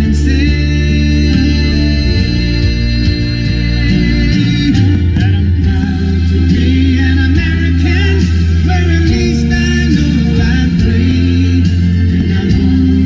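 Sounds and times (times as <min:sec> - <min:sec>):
singing over bass line: 0:00.0 - 0:13.0.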